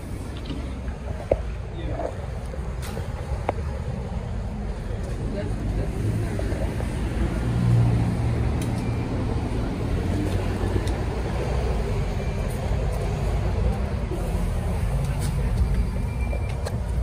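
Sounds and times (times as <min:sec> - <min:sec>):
bus cabin low rumble: 0:00.0 - 0:17.0.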